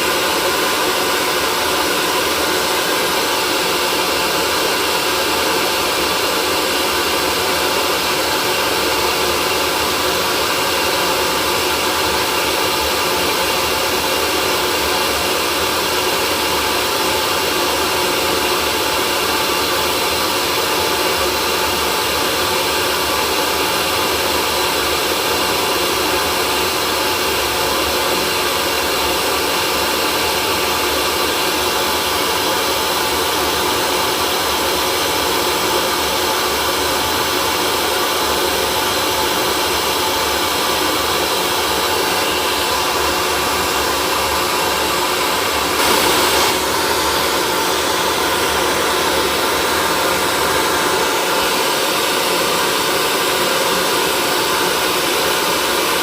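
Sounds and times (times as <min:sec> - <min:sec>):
hair dryer whirring: 0:00.0 - 0:56.0.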